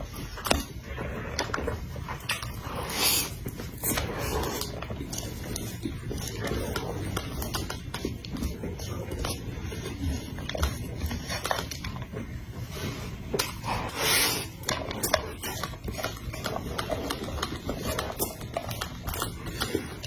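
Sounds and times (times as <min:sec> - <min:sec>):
wet chewing with mouth clicks: 0:00.0 - 0:20.0.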